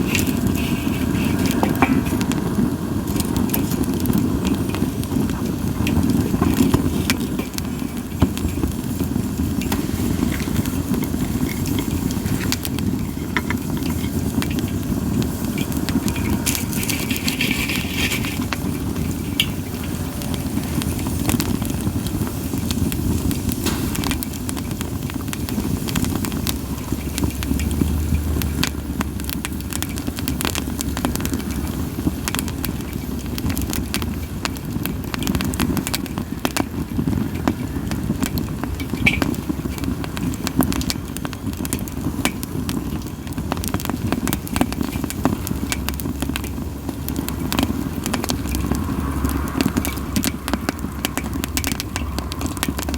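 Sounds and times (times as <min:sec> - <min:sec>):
campfire flame noise: 0:00.0 - 0:52.9
firewood crackling and popping: 0:00.0 - 0:52.9.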